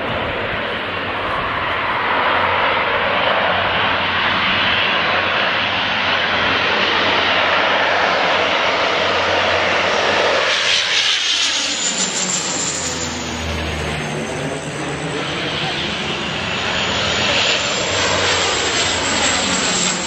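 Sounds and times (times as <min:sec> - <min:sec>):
plane engines flying overhead: 0:00.0 - 0:20.0.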